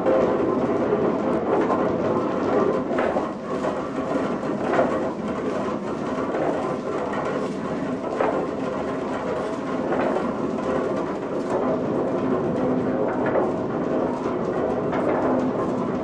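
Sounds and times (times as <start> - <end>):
mill machinery rumbling clatter: 0.0 - 16.0.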